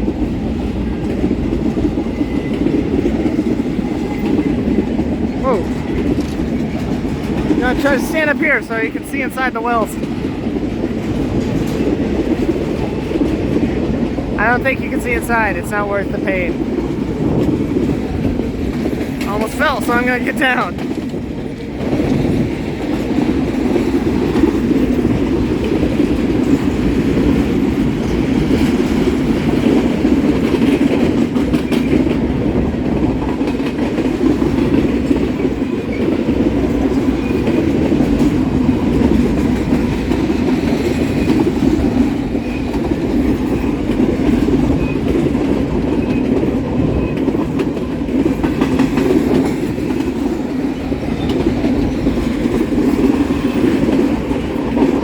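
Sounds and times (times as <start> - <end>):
steel wheels on rails: 0.0 - 55.0.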